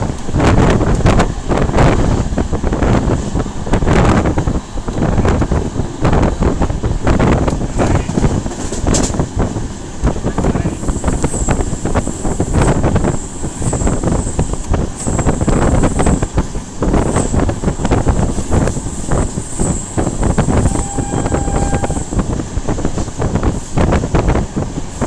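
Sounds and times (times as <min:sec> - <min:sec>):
train rumbling on track: 0:00.0 - 0:25.0
wind buffeting microphone: 0:00.0 - 0:25.0.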